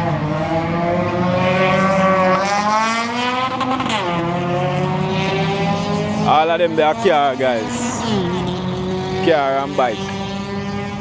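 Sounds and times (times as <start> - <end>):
drag racing engine passing: 0.0 - 11.0.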